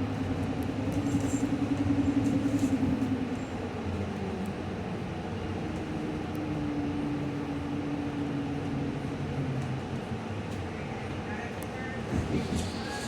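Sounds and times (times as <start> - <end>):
electric bus drive hum: 0.0 - 13.0
road and rolling noise: 0.0 - 13.0.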